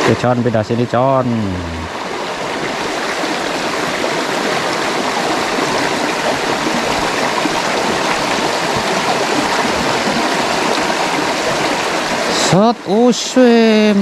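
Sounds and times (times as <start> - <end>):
stream running over stones: 0.0 - 14.0.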